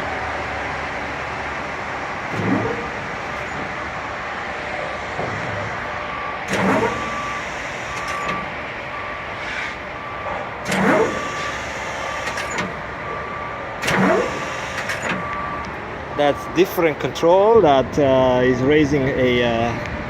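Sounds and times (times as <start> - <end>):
crane machinery noise: 0.0 - 20.0
warning beeper: 2.4 - 18.8.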